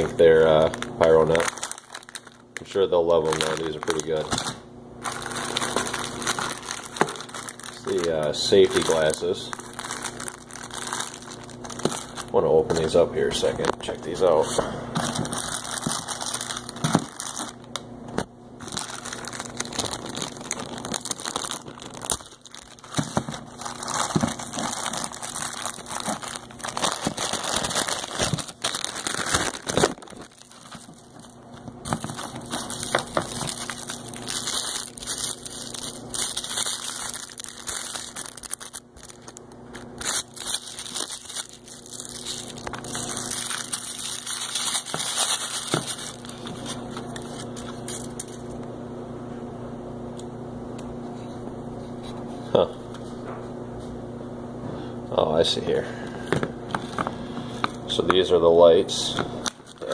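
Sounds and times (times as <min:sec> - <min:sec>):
plastic packaging crinkling: 0:00.0 - 0:48.6, 0:56.7 - 0:59.9.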